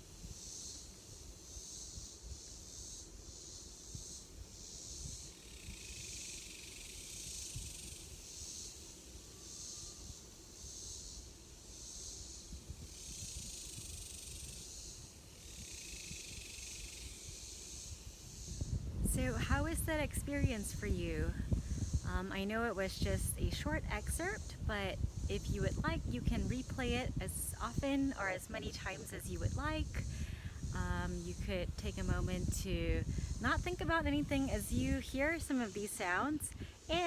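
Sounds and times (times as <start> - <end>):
insects buzzing high-pitched: 0.0 - 37.0.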